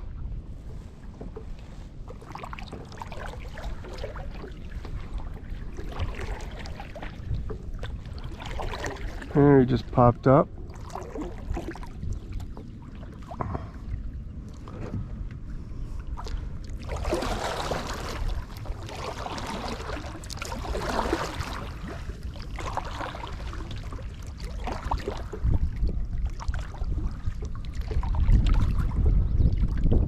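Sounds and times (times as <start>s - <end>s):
wind rumble on microphone: 0.0s - 30.0s
paddle splashing in water: 0.5s - 15.0s, 15.9s - 30.0s.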